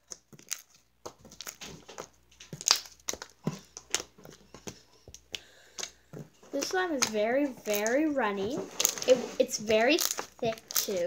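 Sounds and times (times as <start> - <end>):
hands squelching sticky slime: 0.0 - 11.0.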